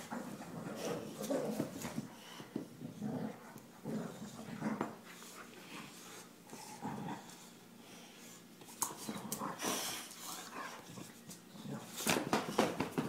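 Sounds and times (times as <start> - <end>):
dogs play-growling and grunting: 0.0 - 13.0.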